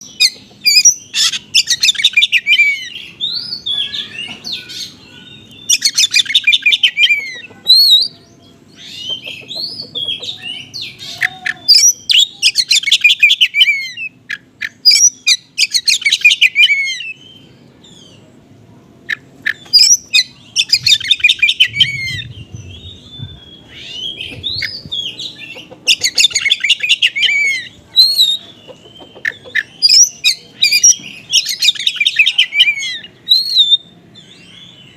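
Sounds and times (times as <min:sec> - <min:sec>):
bird trills and chattering: 0:00.0 - 0:18.2, 0:19.0 - 0:34.9.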